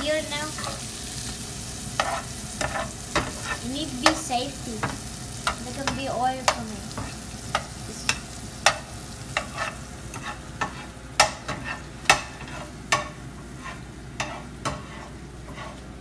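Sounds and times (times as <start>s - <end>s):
garlic sizzling in butter: 0.0s - 16.0s
spatula stirring in pan: 0.0s - 16.0s.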